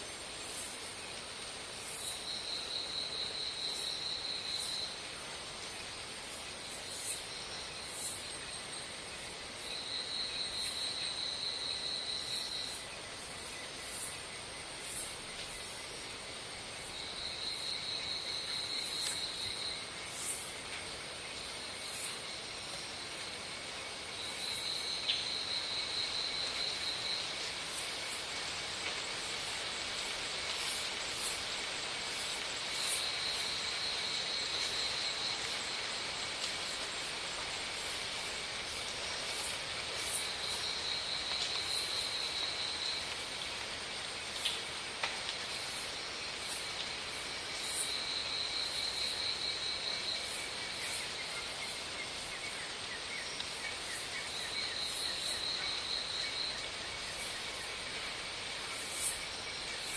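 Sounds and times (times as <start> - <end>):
high-pitched insect whine: 0.0 - 44.8, 45.4 - 59.9
constant hiss: 0.0 - 59.9.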